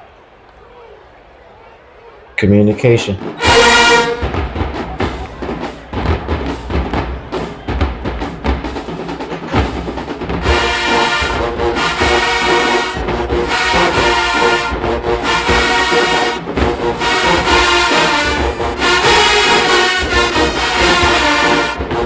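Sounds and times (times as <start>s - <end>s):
brass section chords: 2.4s - 22.0s
drumline percussion beats: 2.6s - 22.0s.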